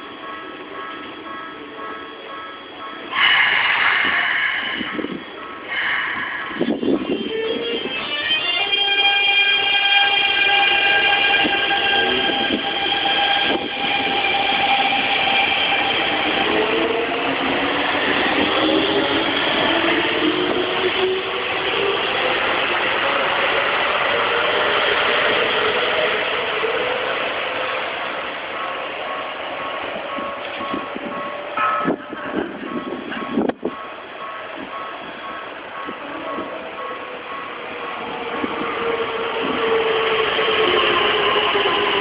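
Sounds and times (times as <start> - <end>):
approaching train rumble: 0.0 - 42.0
train traction motor whine: 0.0 - 42.0.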